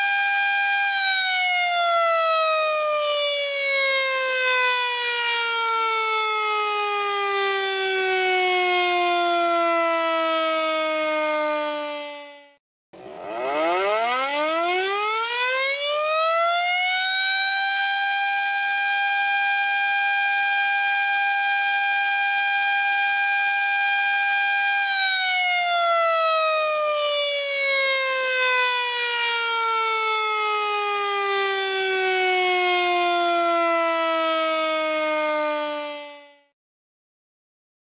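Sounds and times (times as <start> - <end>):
siren wailing: 0.0 - 36.5.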